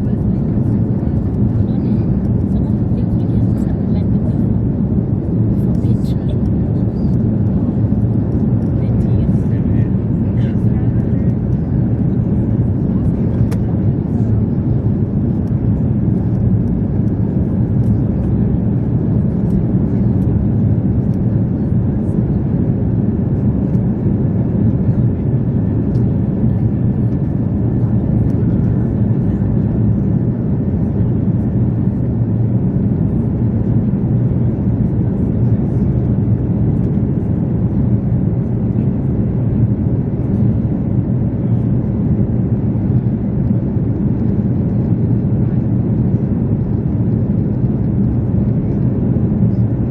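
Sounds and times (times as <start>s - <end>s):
jet airliner engine rumble: 0.0s - 49.9s.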